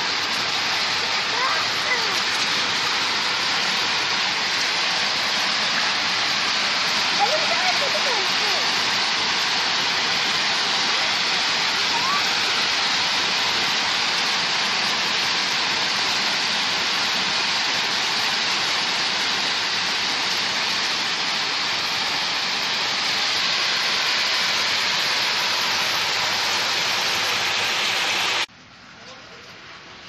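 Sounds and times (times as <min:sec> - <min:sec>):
heavy rain falling: 0:00.0 - 0:28.8.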